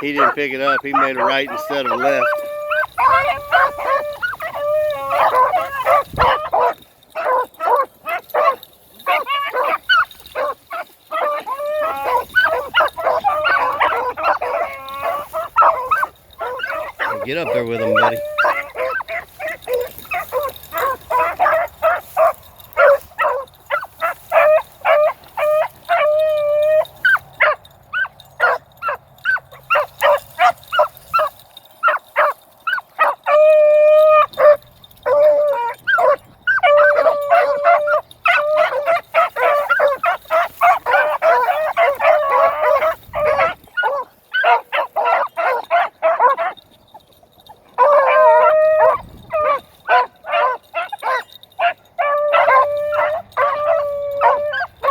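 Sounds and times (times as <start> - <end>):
dogs baying: 0.0 - 54.9
dogs howling: 0.0 - 54.9.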